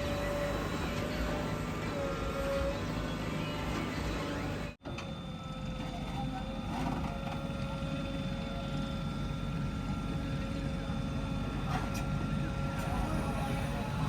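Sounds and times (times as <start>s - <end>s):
diesel engine rumbling: 0.0s - 14.0s
machinery whine: 0.0s - 14.0s.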